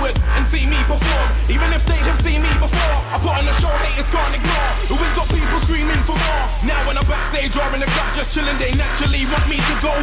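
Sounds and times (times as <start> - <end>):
electronic hip-hop music: 0.0 - 10.0.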